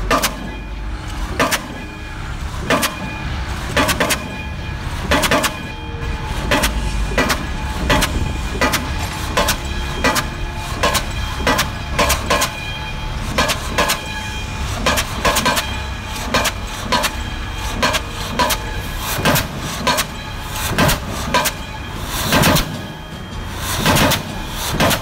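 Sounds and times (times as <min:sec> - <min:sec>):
pile hammer blows: 0:00.0 - 0:00.7, 0:01.3 - 0:25.0
crane engine hum: 0:00.0 - 0:25.0.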